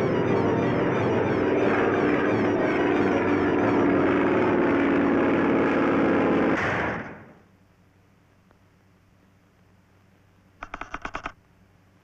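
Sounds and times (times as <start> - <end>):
propeller airplane engine drone: 0.0 - 9.7.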